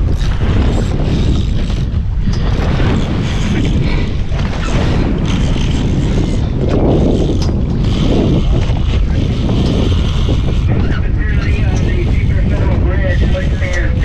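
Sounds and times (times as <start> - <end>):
sea washing against hull: 0.0 - 14.0
wind buffeting microphone: 0.0 - 14.0.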